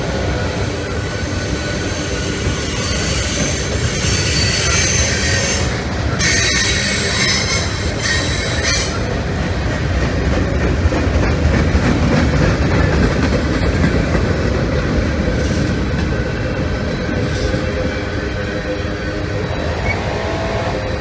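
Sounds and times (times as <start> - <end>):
freight train low rumble: 0.0 - 21.0.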